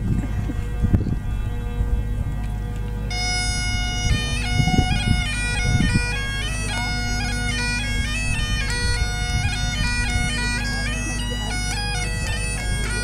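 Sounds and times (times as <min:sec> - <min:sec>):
bagpipe melody over drones: 0:00.0 - 0:13.0.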